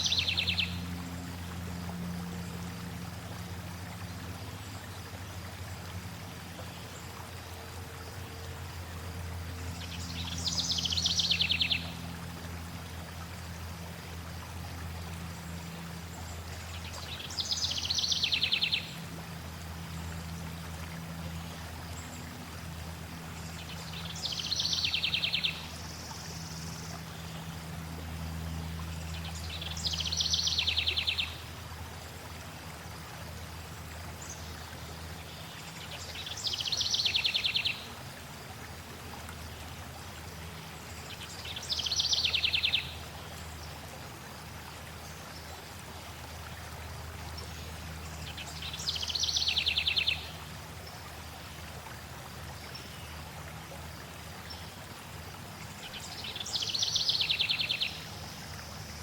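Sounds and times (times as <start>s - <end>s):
flowing water: 0.0s - 59.0s.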